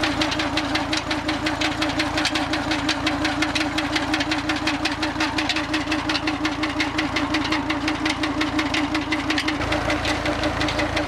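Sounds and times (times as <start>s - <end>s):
tractor diesel engine clattering: 0.0s - 11.0s.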